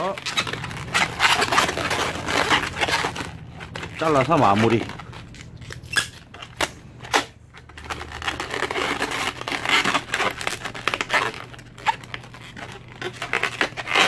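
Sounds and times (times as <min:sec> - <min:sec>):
balloons rubbing and crinkling: 0:00.0 - 0:14.0.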